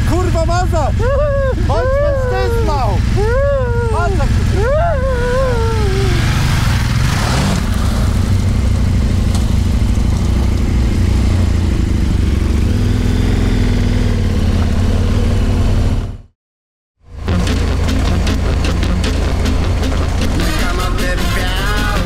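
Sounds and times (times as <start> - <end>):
motorcycle engines running: 0.0 - 16.3, 17.1 - 22.0.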